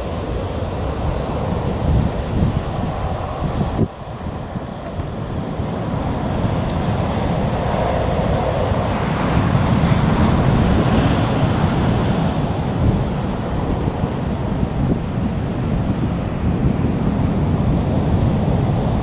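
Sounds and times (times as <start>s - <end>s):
jet engines rumbling: 0.0s - 19.0s
wind buffeting microphone: 0.0s - 19.0s.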